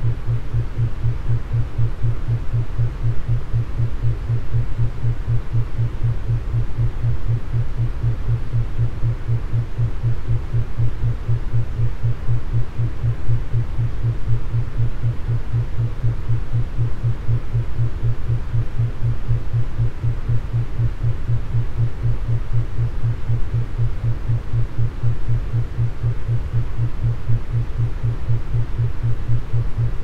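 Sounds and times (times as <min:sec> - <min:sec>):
pulsing low hum: 0:00.0 - 0:30.0.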